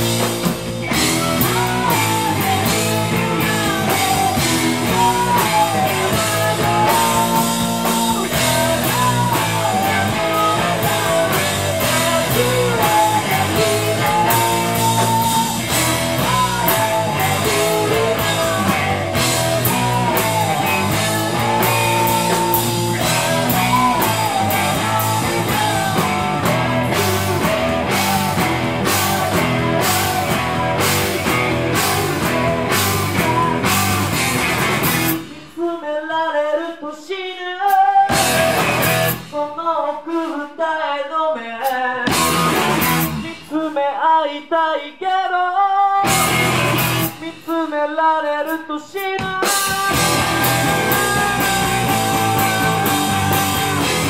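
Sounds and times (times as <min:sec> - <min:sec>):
punk rock band playing: 0:00.0 - 0:35.6, 0:38.1 - 0:39.6, 0:42.0 - 0:43.5, 0:46.0 - 0:47.5, 0:49.2 - 0:54.0
male singer: 0:00.0 - 0:54.0.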